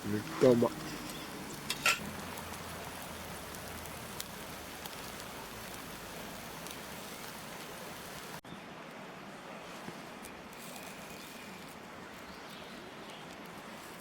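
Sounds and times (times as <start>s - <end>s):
steak sizzling on a grill: 0.0s - 8.4s, 10.5s - 14.0s.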